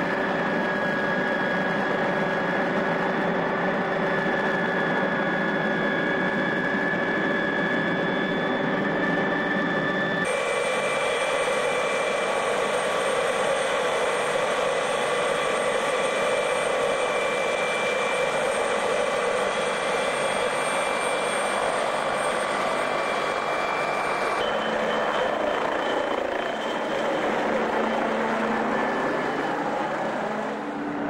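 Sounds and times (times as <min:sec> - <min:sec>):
helicopter engine and rotor noise: 0:00.0 - 0:31.0
helicopter turbine whine: 0:00.0 - 0:31.0.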